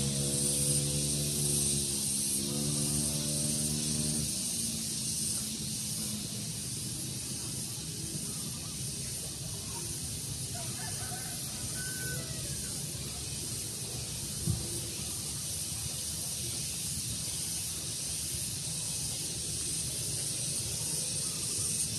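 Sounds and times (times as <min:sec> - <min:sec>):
steady high hiss: 0:00.0 - 0:21.9.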